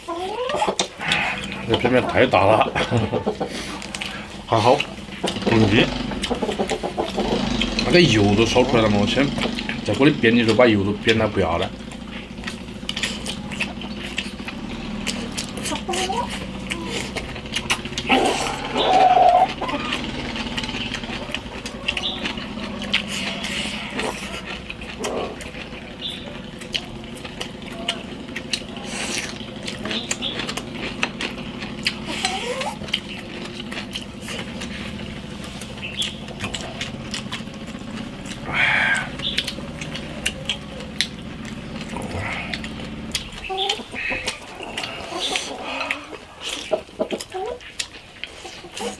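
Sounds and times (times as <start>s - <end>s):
chewing and mouth noises: 0.0s - 48.9s
loud rasping sound: 0.0s - 48.9s
steady low motor hum: 0.0s - 48.9s
chopsticks clicking against bowls: 0.1s - 48.9s.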